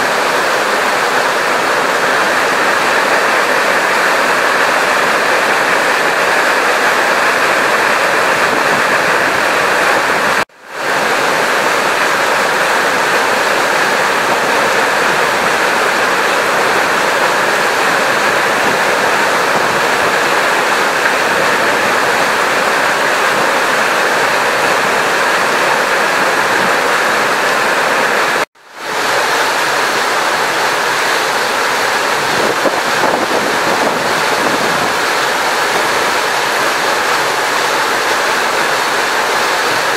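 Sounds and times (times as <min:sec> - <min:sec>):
loud rushing water: 0:00.0 - 0:39.9.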